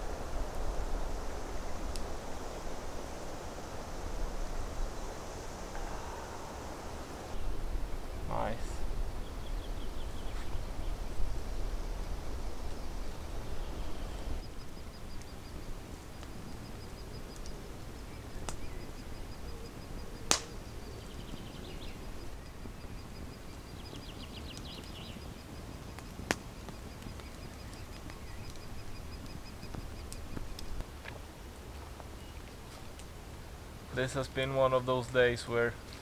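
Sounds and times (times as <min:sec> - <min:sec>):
low wind rumble: 0:00.0 - 0:34.5.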